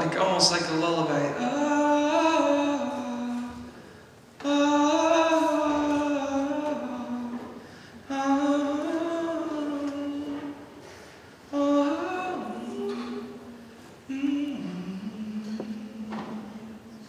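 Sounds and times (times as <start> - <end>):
man singing unaccompanied: 0.0 - 3.8, 4.4 - 10.8, 11.5 - 17.0.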